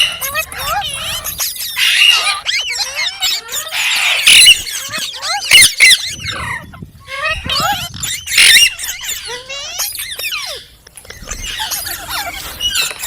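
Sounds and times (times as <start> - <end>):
parrot chirping and squawking: 0.0 - 13.0
parrot screeches: 0.0 - 13.0.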